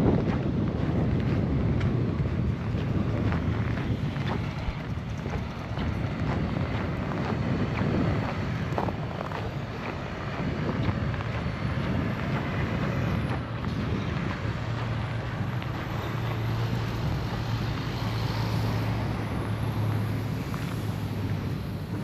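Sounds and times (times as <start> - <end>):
traffic noise: 0.0 - 22.0
vehicle engine running: 0.0 - 22.0.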